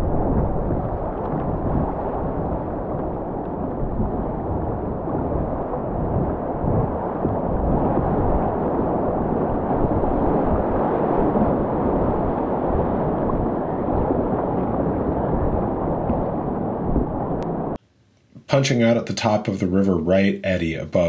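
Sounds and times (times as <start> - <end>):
wind buffeting microphone: 0.0 - 17.8.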